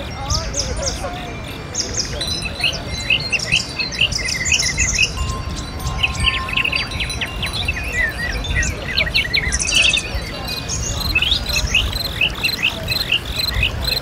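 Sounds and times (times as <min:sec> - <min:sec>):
electronic bird-like chirps: 0:00.0 - 0:14.0.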